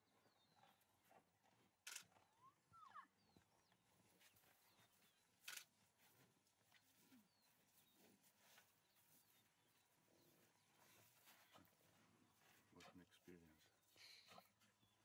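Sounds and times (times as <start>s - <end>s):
faint bird chirps: 0.0s - 1.2s, 1.9s - 15.0s.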